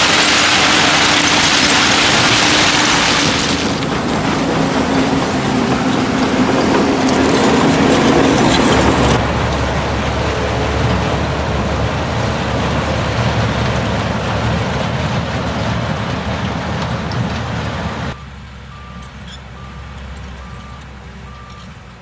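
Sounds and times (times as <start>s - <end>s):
deep engine rumble: 0.0s - 21.9s
heavy diesel machinery running: 0.0s - 22.0s.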